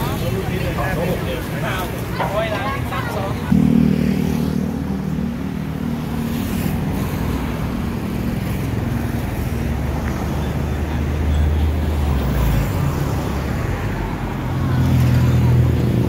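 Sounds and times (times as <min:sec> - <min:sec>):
road traffic engines: 0:00.0 - 0:16.0.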